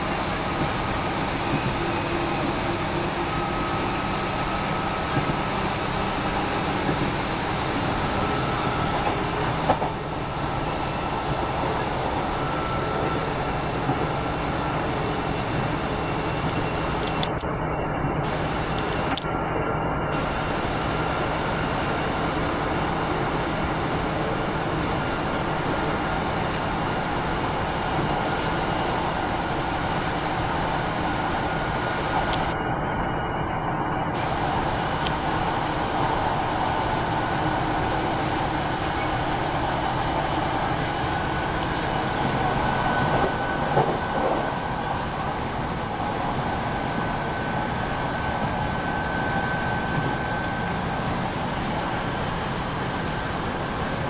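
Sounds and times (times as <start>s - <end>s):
train running noise inside: 0.0s - 54.0s.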